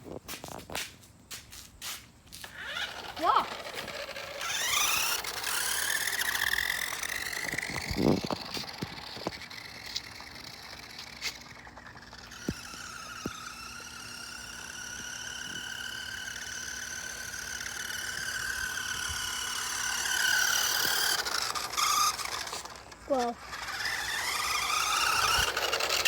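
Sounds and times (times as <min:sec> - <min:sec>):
toy car motor whining: 0:02.4 - 0:26.0.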